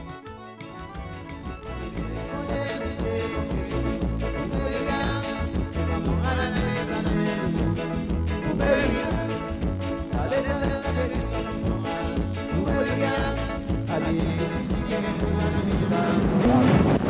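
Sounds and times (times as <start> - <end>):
upbeat sega music: 0.0 - 16.5.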